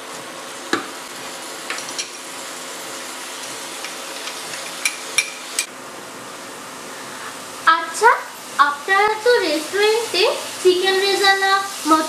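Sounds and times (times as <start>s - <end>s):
onion paste sizzling in oil: 0.0s - 12.0s.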